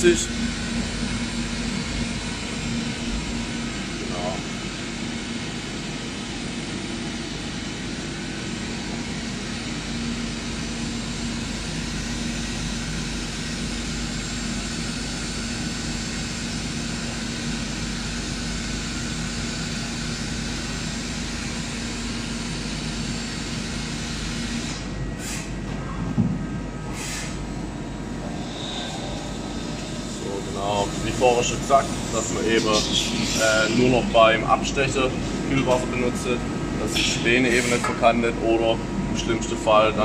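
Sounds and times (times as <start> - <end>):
lathe running with held tone: 0.0 - 25.0, 27.4 - 40.0.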